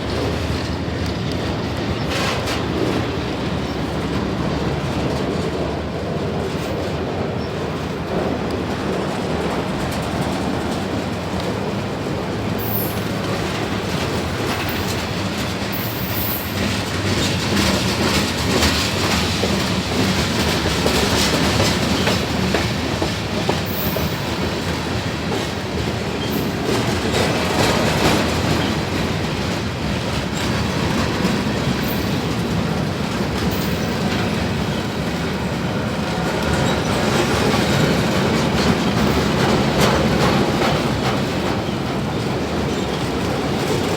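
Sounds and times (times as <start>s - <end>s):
train wheels clacking over rail joints: 0.0s - 43.9s.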